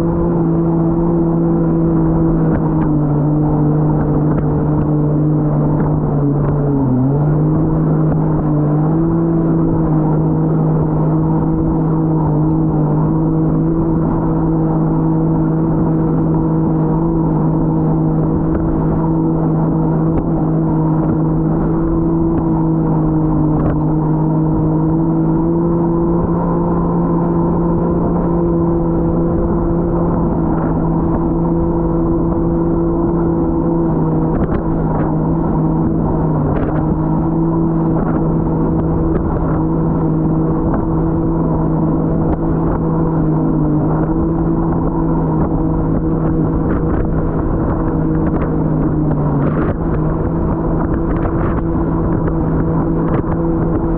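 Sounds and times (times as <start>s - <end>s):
jet ski engine running: 0.0s - 53.9s.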